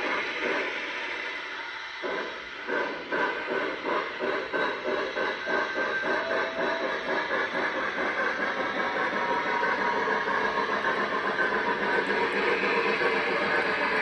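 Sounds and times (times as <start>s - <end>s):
model train wheels clattering: 2.1s - 14.0s.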